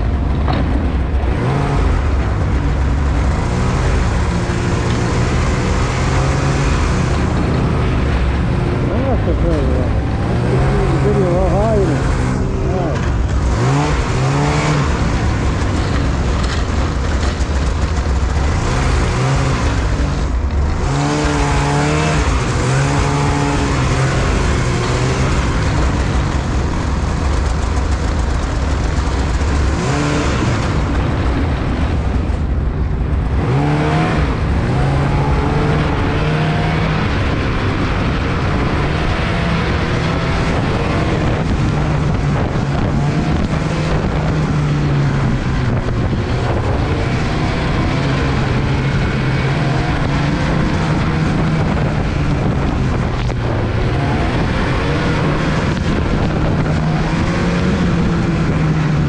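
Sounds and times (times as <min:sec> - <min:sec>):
snowmobile engine revving: 0:00.0 - 0:32.4, 0:33.1 - 0:59.0
steady rushing noise: 0:00.0 - 0:59.0.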